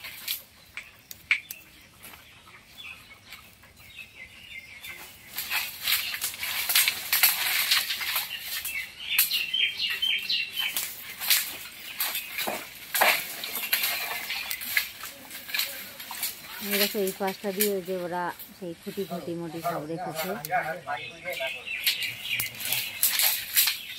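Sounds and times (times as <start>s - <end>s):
dry bamboo rustling and clattering: 0.0s - 23.9s
small birds chirping: 0.0s - 23.9s.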